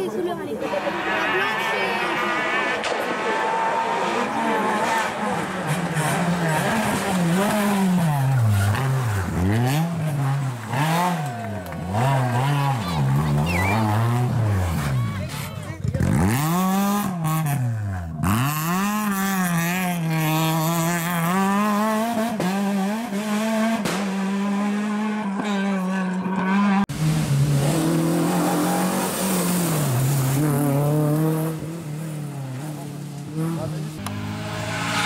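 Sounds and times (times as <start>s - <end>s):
rally car engine accelerating: 0.6s - 35.0s
rally car revving past: 0.7s - 15.0s, 16.0s - 35.0s.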